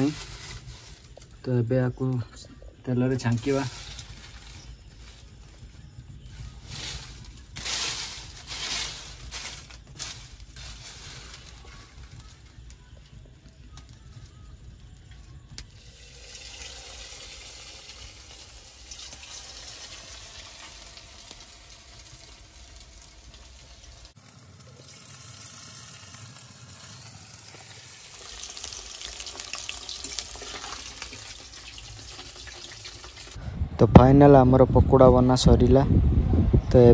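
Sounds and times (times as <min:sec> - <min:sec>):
chicken deep-frying in hot oil: 0:00.0 - 0:01.9, 0:03.0 - 0:33.4.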